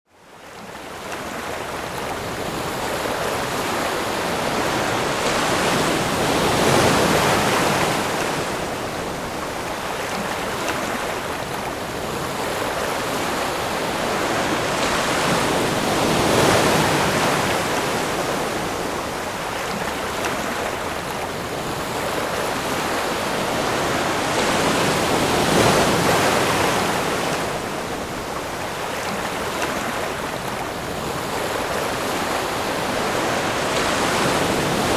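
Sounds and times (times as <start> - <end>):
waves breaking on shore: 0.2 - 34.9.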